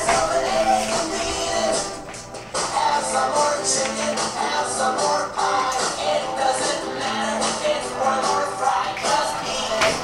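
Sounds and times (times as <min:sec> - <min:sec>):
dance music with steady beat: 0:00.0 - 0:10.0.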